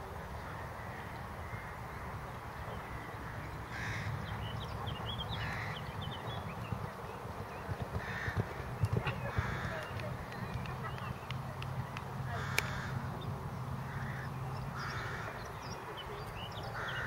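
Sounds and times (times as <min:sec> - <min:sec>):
bird calls: 0:00.4 - 0:17.0.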